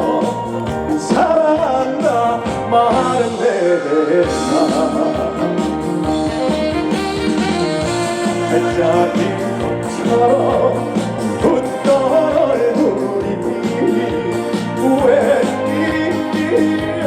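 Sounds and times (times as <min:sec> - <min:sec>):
pulsing bass and drum beat: 0:00.0 - 0:03.4, 0:04.3 - 0:17.0
gliding lead melody: 0:00.0 - 0:17.0
live band playing: 0:00.0 - 0:17.0.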